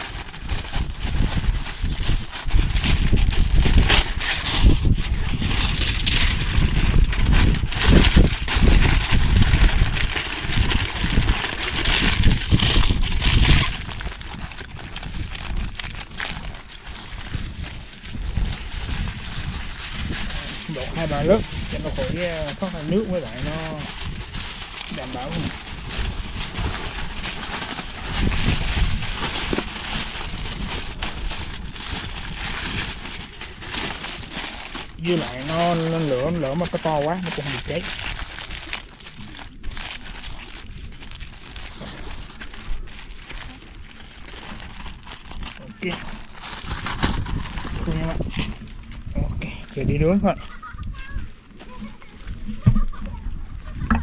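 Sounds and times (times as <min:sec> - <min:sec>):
rustling handling noise: 0:00.0 - 0:54.0
wind buffeting microphone: 0:00.0 - 0:54.0.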